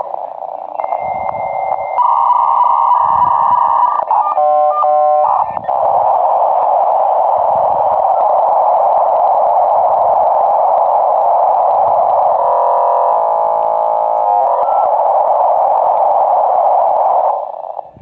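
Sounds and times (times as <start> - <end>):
modem data hiss: 0.0 - 18.0
stacked steady modem tones: 0.0 - 18.0.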